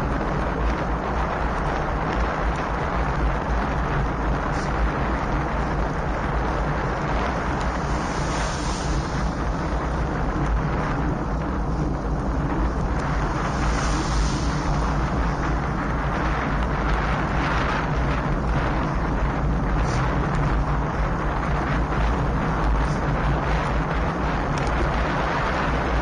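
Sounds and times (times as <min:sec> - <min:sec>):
low rumble: 0:00.0 - 0:26.0
wind on camera microphone: 0:00.0 - 0:26.0.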